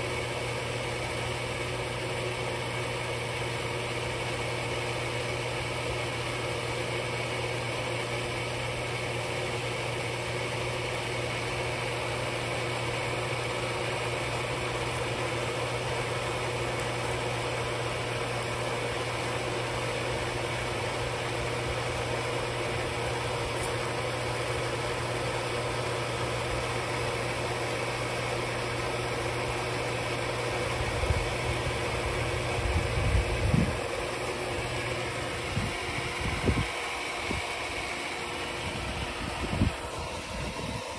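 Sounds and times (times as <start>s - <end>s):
pump motor humming: 0.0s - 40.9s.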